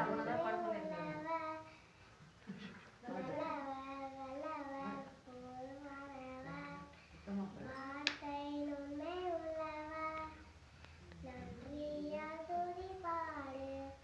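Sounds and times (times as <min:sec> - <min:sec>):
child singing: 0:00.0 - 0:01.7, 0:03.0 - 0:07.0, 0:07.6 - 0:10.6, 0:11.2 - 0:14.0.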